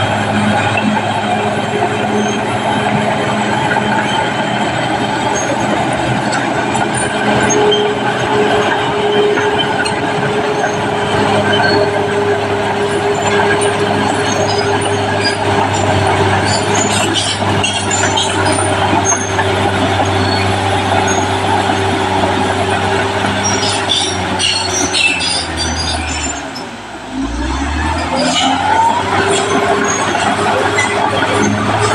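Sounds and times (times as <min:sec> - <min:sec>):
bulldozer diesel engine whining: 0:00.0 - 0:31.9
steel tracks clanking and squeaking: 0:00.0 - 0:31.9.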